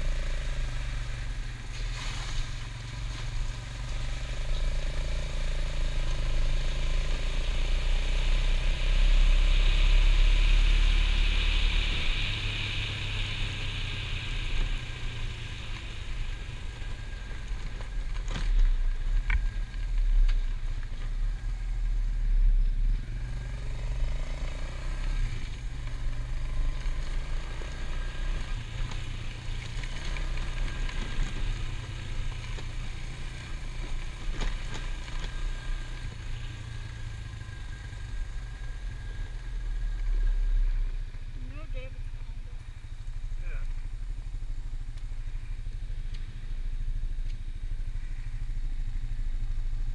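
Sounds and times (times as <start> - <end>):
atv engine droning: 0.0 - 49.9.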